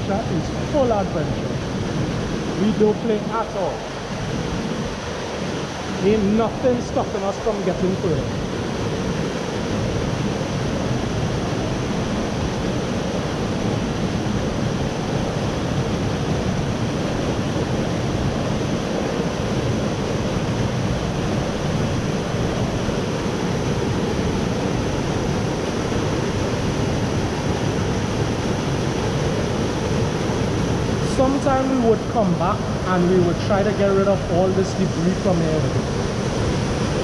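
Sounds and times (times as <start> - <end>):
rush of falling water: 0.0 - 37.0.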